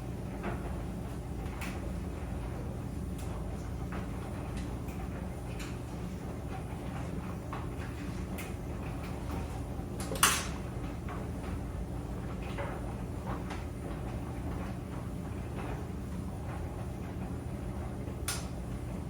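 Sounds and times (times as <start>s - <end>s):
clothes dryer humming: 0.0s - 19.0s.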